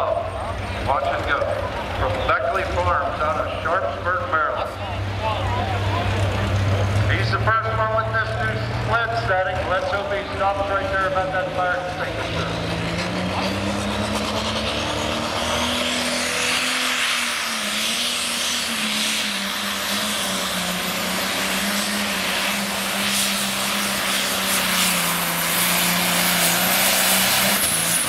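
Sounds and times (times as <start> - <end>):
diesel engine running flat out: 0.0 - 28.0.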